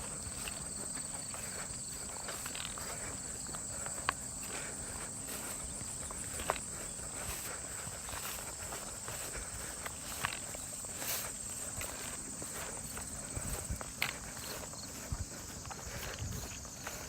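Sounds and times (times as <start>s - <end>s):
footsteps through grass: 0.0s - 17.0s
insects trilling: 0.0s - 17.0s.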